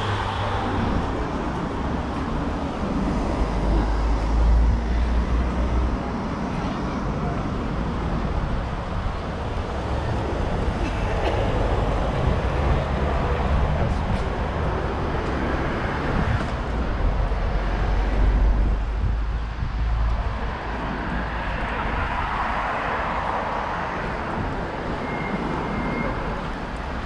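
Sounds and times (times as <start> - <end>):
heavy vehicle rumble: 0.0 - 27.0
vehicles passing on a street: 0.0 - 27.0.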